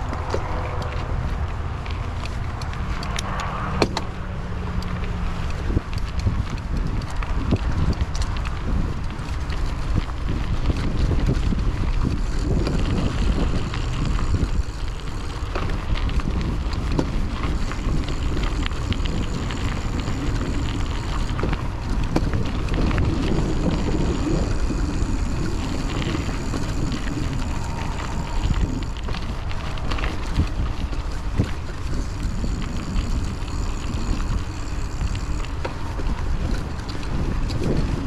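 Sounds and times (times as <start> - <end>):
bike tyres rolling on trail: 0.0 - 38.0
small clicks and rattles: 0.0 - 38.0
wind buffeting microphone: 0.0 - 38.0.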